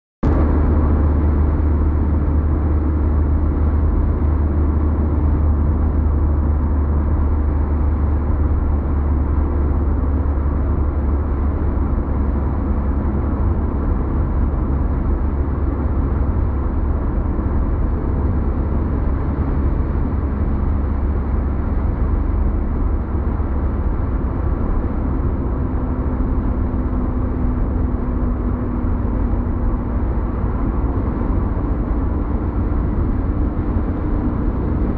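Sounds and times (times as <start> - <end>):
car road noise rumble: 0.2 - 34.9.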